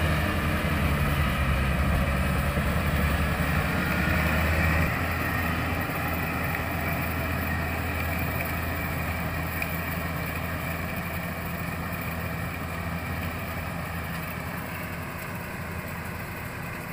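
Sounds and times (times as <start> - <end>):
harvester engine droning: 0.0 - 16.9.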